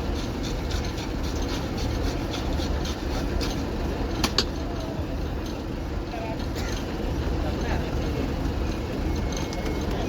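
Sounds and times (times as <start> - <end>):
machinery rumble: 0.0 - 10.0.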